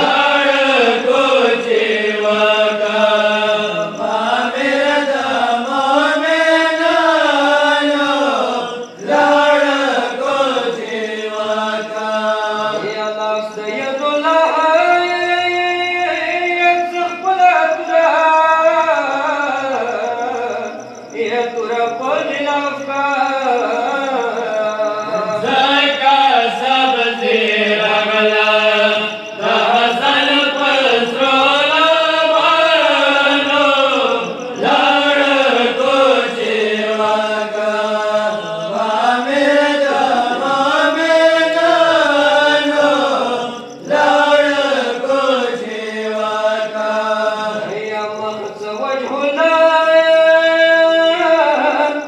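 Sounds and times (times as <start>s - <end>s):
person chanting a lament: 0.0s - 52.0s.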